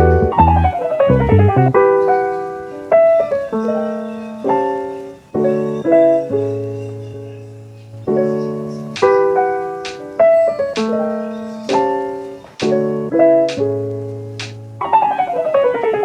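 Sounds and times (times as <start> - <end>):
solo piano chords: 0.0 - 16.0.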